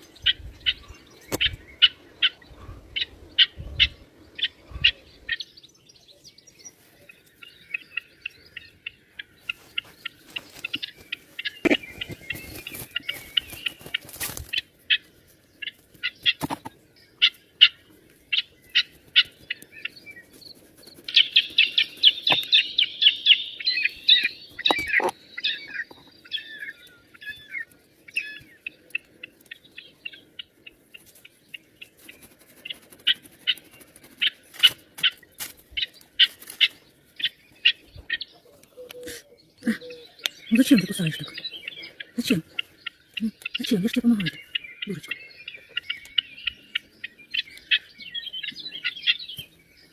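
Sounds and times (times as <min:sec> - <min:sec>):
small bird chirping: 0:00.0 - 0:49.9.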